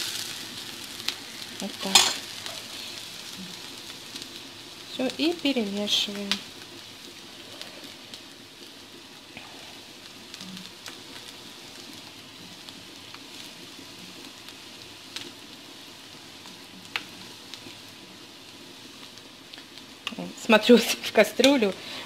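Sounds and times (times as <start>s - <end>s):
pot simmering with hiss: 0.0s - 22.0s.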